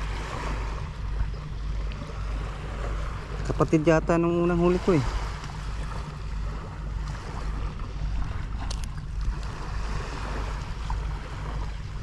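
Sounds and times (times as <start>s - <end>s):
sea: 0.0s - 12.0s.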